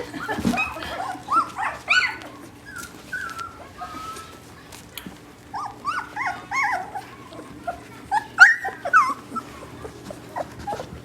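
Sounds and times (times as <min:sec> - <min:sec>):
puppies whimpering and squeaking: 0:00.0 - 0:11.0.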